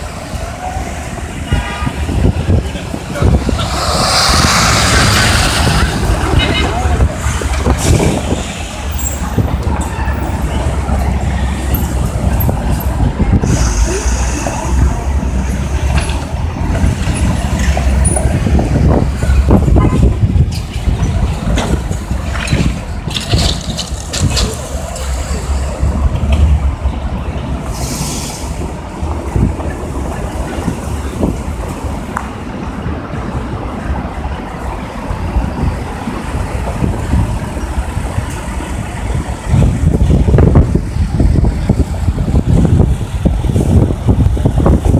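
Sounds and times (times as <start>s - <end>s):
traffic passing: 0.0s - 44.9s
wind buffeting microphone: 0.0s - 44.9s.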